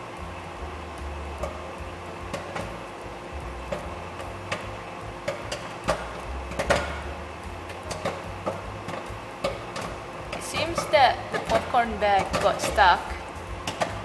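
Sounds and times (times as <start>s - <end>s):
microwave oven hum: 0.0s - 14.0s
popcorn popping in paper bag: 0.0s - 14.0s.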